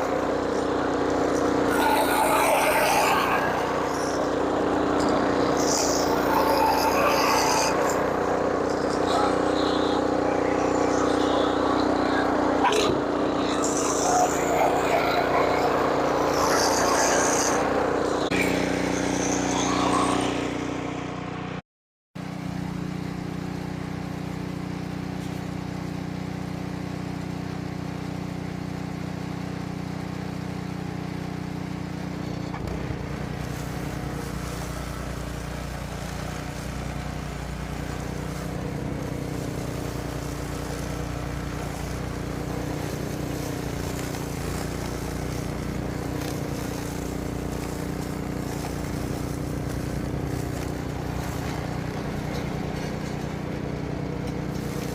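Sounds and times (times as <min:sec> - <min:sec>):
engine running steadily: 0:00.0 - 0:21.6, 0:22.2 - 0:54.9.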